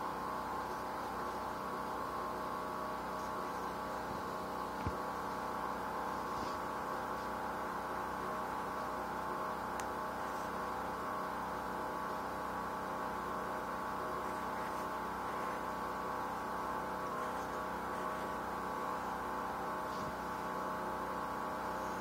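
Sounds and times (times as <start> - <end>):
droning hum of held tones: 0.0 - 22.0.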